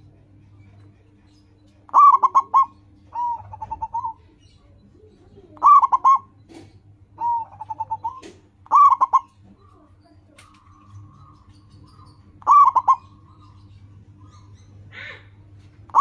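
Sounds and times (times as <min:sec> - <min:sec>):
dove cooing: 0:01.9 - 0:16.0.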